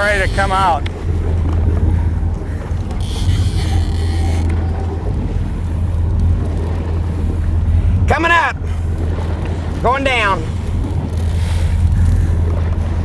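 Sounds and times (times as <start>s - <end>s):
boat engine droning: 0.0s - 13.0s
water noise: 0.0s - 13.0s
wind on microphone: 0.0s - 13.0s.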